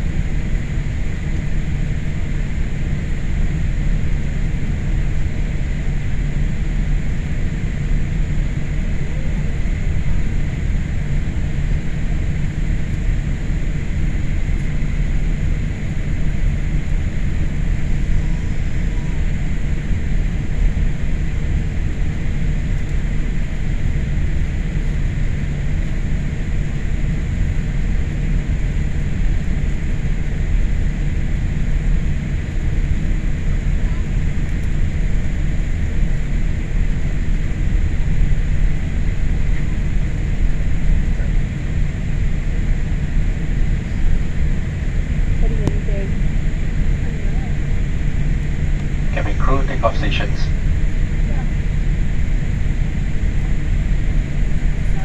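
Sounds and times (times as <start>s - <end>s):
airliner cabin rumble and hiss: 0.0s - 55.0s
faint steady whine: 0.0s - 55.0s.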